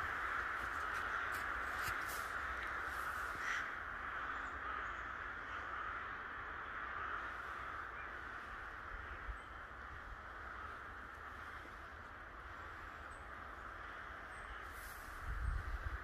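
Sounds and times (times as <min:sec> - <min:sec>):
crows cawing: 0:00.0 - 0:15.2.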